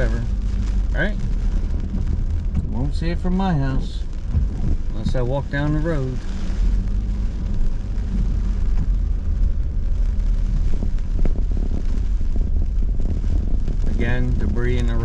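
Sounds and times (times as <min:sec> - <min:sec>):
car driving slowly: 0:00.0 - 0:15.0.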